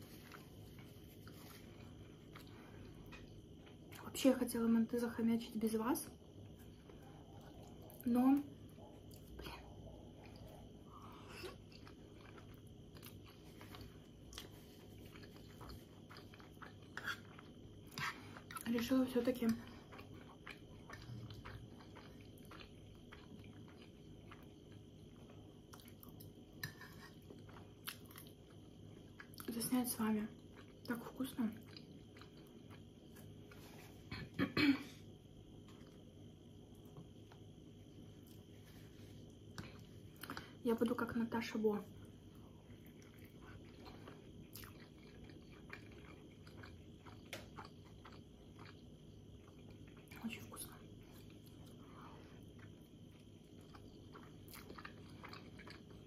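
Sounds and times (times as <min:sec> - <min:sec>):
faint chewing: 0:00.0 - 0:04.2, 0:06.1 - 0:34.4, 0:35.5 - 0:41.1, 0:41.8 - 0:56.0.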